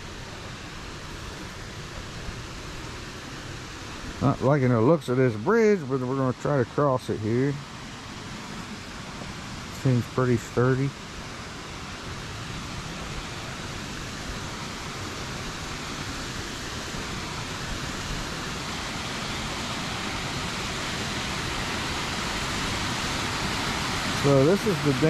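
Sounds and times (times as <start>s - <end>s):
water rushing over a spillway: 0.0s - 25.0s.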